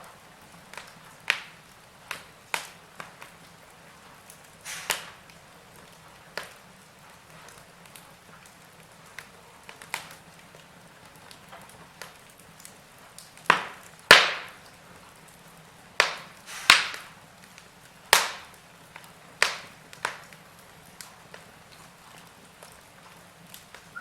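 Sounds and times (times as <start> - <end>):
faint steady hiss: 0.0 - 24.0
wood fire crackling and popping: 0.0 - 24.0.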